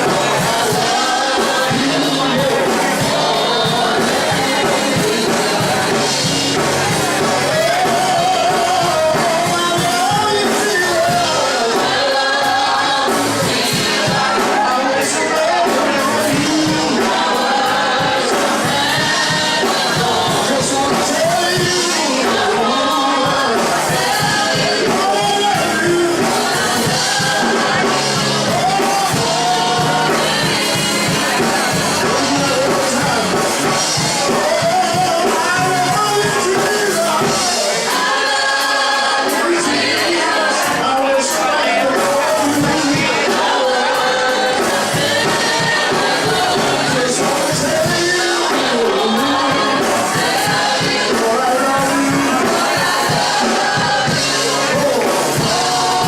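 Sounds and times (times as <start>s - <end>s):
gospel singing voices: 0.0s - 56.0s
instrumental accompaniment: 0.0s - 56.0s.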